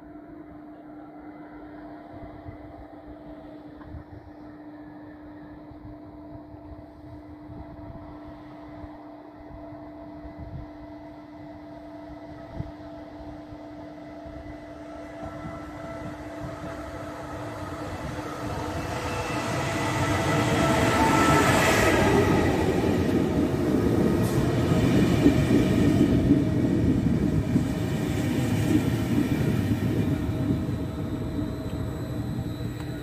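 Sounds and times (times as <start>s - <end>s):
steady hum: 0.0s - 33.0s
train rumble and rail noise: 0.0s - 33.0s.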